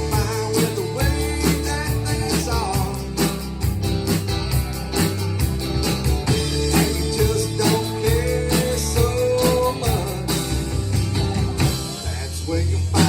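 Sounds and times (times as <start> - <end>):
bass line: 0.0 - 13.0
steady drum beat: 0.0 - 13.0.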